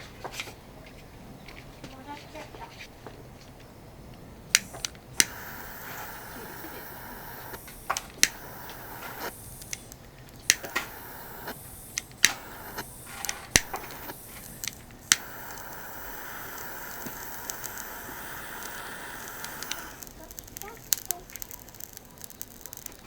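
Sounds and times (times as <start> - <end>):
steady hiss: 3.9 - 23.0
sharp clicks and clinks: 4.5 - 23.0.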